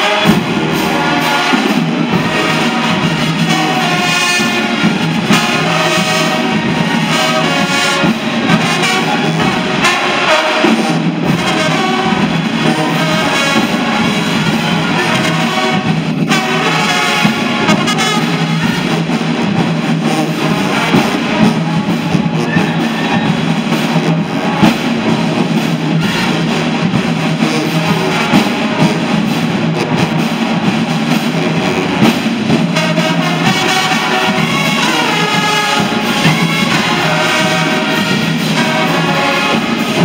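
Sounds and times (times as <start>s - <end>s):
drums: 0.0s - 40.0s
marching band playing: 0.0s - 40.0s.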